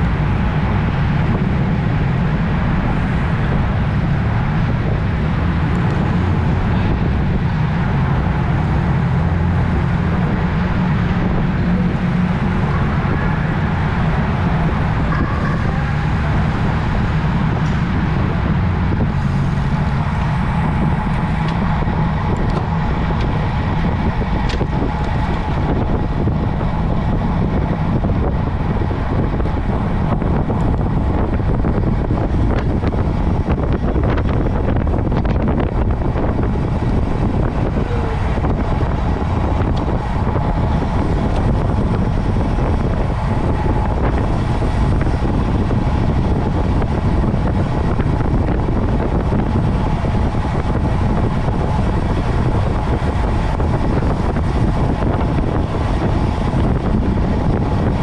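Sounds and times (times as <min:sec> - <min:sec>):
low rumble: 0:00.0 - 0:58.0
road noise from bike: 0:00.0 - 0:58.0
wind rush: 0:00.0 - 0:58.0.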